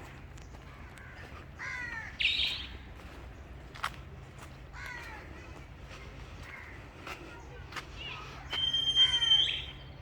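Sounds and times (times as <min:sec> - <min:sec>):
bird calling: 0:00.4 - 0:03.5, 0:04.7 - 0:10.0.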